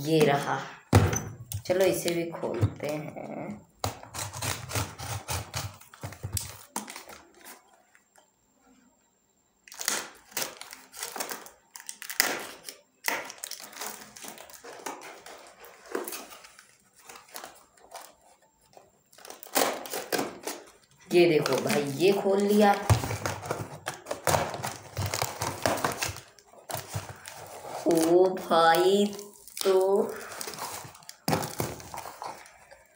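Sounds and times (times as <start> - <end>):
packaging crinkling and tearing: 3.9 - 7.9, 9.7 - 32.9.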